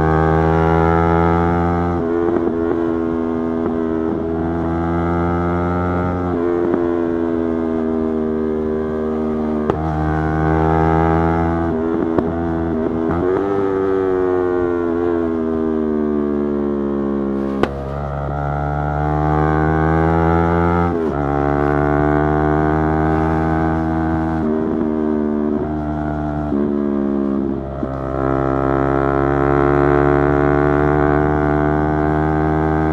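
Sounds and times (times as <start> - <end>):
motorcycle engine running: 0.8 - 32.9.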